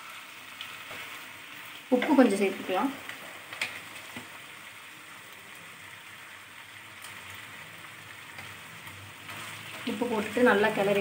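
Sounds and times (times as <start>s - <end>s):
chicken sizzling: 0.0s - 11.0s.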